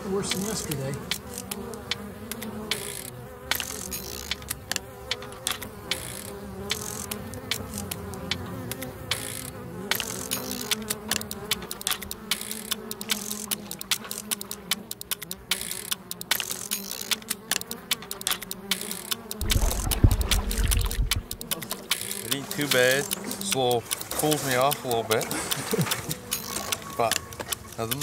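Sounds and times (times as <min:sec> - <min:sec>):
flies buzzing: 0:00.0 - 0:28.0
sharp ticks: 0:00.3 - 0:28.0.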